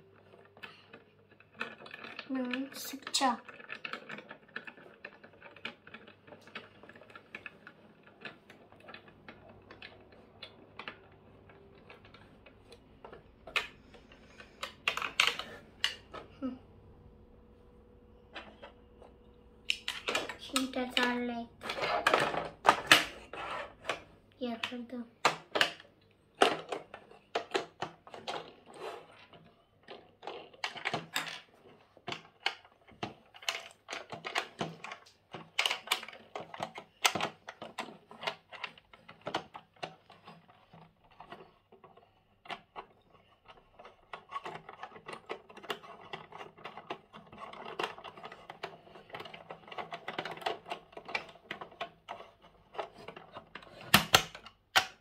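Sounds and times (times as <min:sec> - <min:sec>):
plastic toy parts clicking and rattling: 0:00.0 - 0:16.6, 0:18.3 - 0:55.0.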